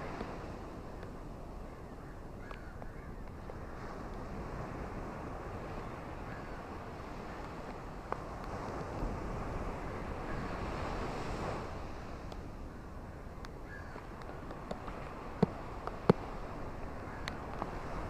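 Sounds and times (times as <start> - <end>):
ocean surf: 0.0 - 2.4, 3.3 - 18.0.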